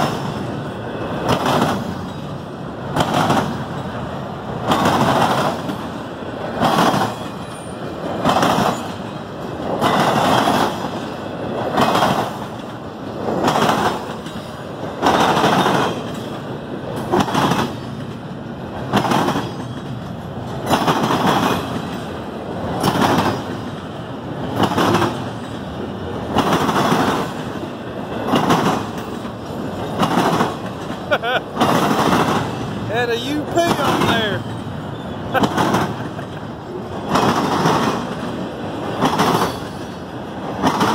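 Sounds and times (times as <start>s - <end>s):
freight train passing: 0.0s - 40.9s.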